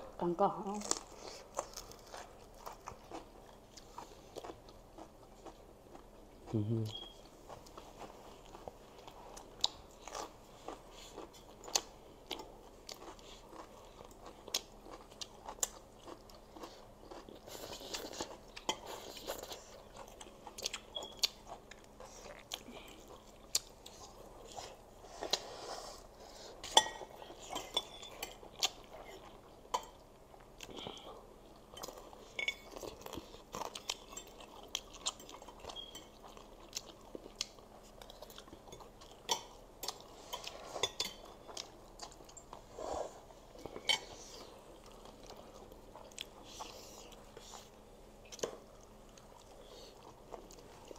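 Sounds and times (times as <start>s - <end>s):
wet chewing and smacking: 0.8s - 25.5s, 26.6s - 42.7s, 43.5s - 50.9s.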